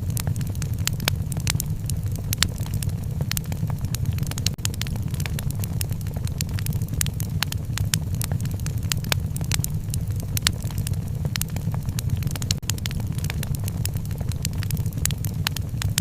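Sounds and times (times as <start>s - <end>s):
fire popping and snapping: 0.0s - 16.0s
low rumble of flames: 0.0s - 16.0s.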